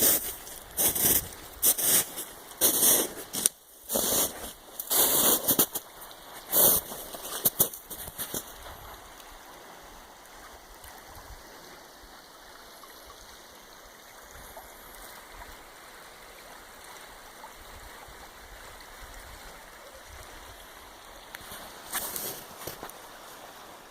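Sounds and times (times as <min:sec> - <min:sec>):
floodwater rushing: 0:00.0 - 0:23.9.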